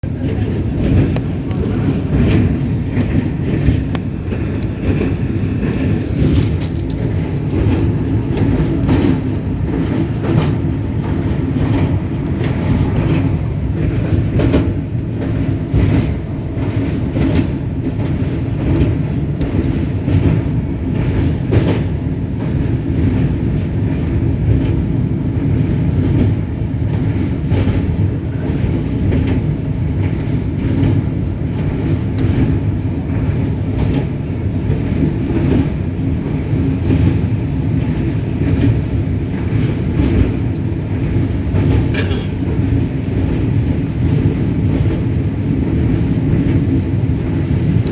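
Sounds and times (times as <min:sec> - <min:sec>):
train rumbling on rails: 0:00.0 - 0:47.9.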